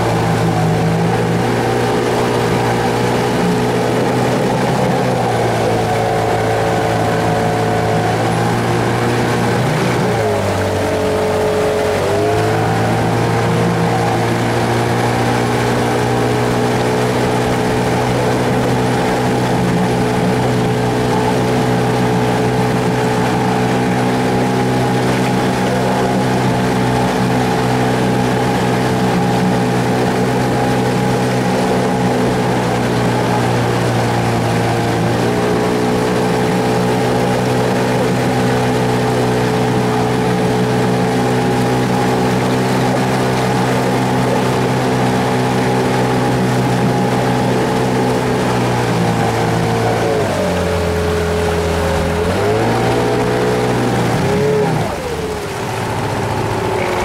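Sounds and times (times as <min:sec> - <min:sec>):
outboard motor running: 0:00.0 - 0:57.0.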